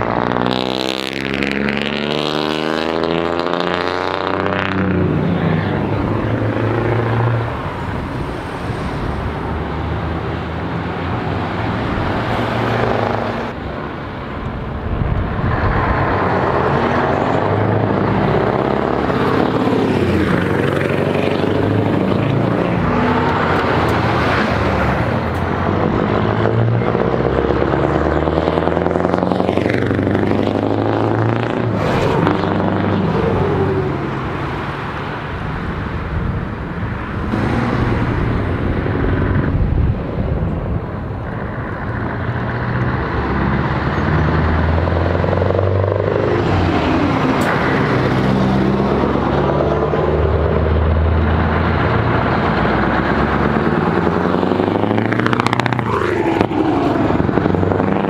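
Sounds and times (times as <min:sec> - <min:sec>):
diesel engines revving: 0:00.0 - 0:58.0
trucks driving past: 0:00.0 - 0:58.0.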